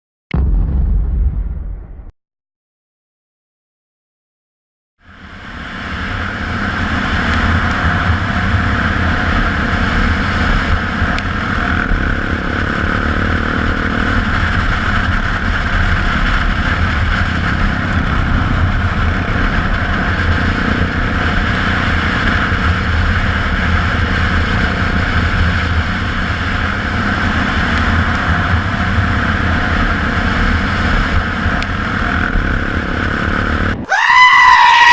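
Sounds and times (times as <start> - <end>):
motorcycle engine running steadily: 5.0 - 33.8.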